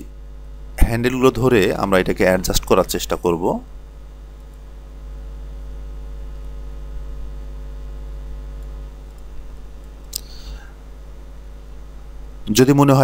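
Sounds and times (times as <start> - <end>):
microphone hum and hiss: 0.0 - 13.0.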